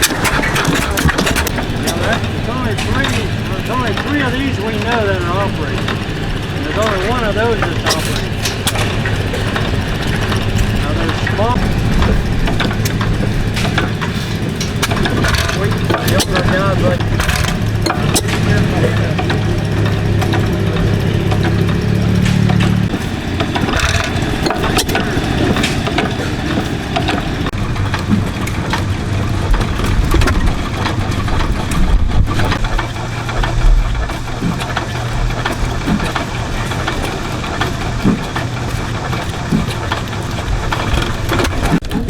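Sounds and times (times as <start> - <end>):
engine knocks: 0.0 - 42.0
gas engines droning: 0.0 - 42.0.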